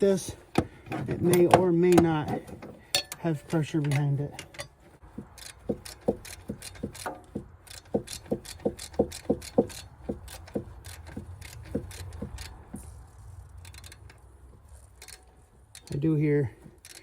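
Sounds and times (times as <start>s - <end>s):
ratchet wrench clicking: 1.3s - 17.0s.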